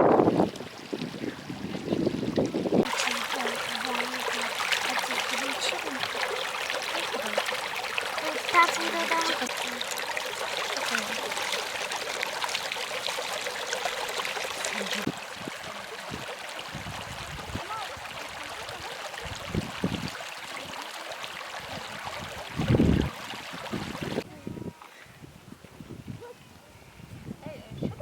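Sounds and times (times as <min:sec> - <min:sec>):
running water: 0:00.0 - 0:24.8.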